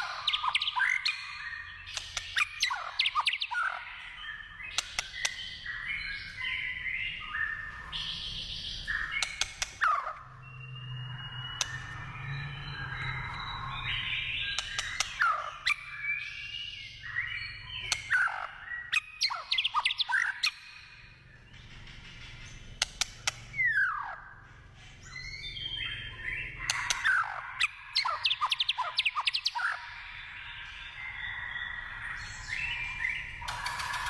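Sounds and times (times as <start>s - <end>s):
bird singing whistled song: 0.0s - 21.5s, 23.0s - 24.4s, 25.0s - 34.0s.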